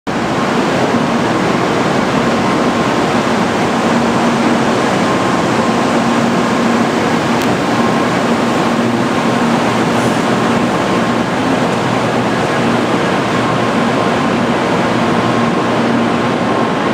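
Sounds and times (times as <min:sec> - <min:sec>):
train equipment whirring hum: 0:00.1 - 0:16.9.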